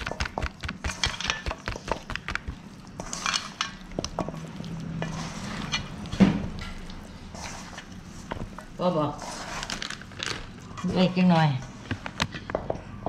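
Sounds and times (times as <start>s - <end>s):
chicken squishing in flour: 0.0s - 11.4s.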